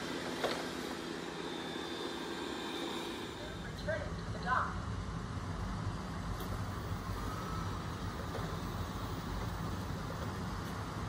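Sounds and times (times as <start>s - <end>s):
robot vacuum humming: 0.0s - 4.4s, 6.0s - 11.0s.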